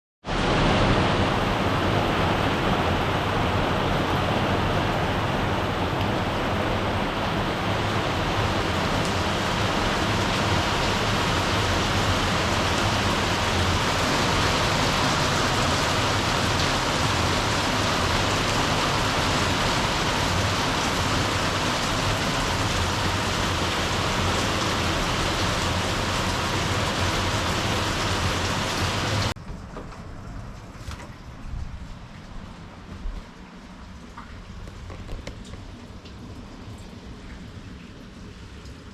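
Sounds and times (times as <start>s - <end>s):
heavy rain falling: 0.2s - 38.9s.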